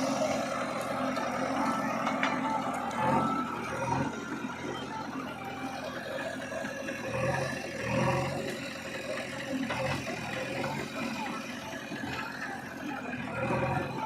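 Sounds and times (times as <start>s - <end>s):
diesel machinery engines running: 0.0s - 14.0s.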